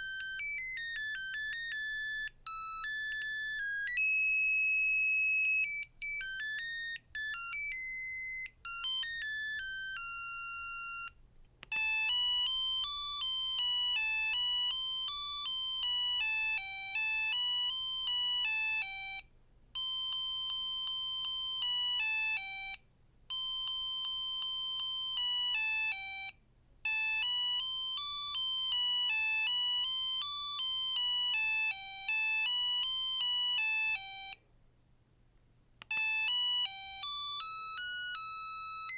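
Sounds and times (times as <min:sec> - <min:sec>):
mobile phone ringtone melody: 0:00.0 - 0:34.4, 0:35.9 - 0:38.9.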